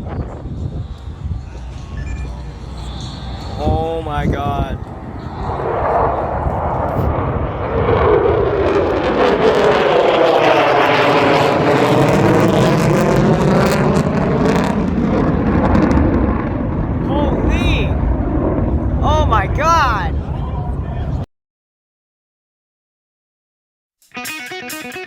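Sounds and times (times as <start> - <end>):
jet fighter flyby: 0.0 - 21.1.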